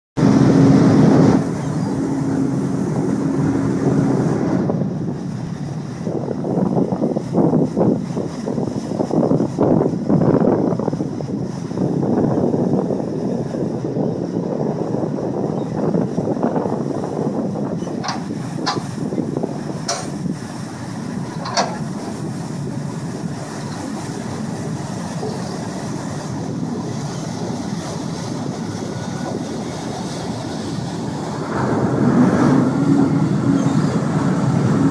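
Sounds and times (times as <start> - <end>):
propeller wake churning: 0.2 - 34.9
ship engine droning: 0.2 - 34.9
wind on microphone: 0.2 - 34.9.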